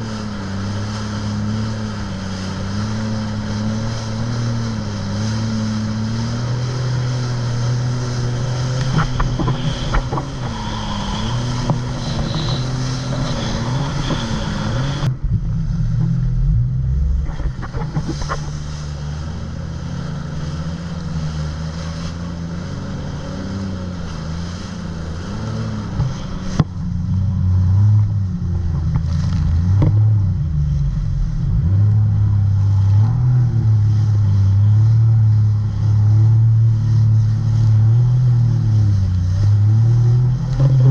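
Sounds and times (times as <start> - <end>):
jet ski engine running: 0.0 - 40.9.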